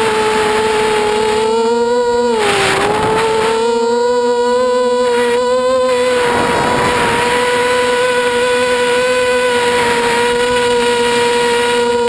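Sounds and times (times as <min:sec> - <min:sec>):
drone motors whining: 0:00.0 - 0:12.0
wind on microphone: 0:02.2 - 0:11.9.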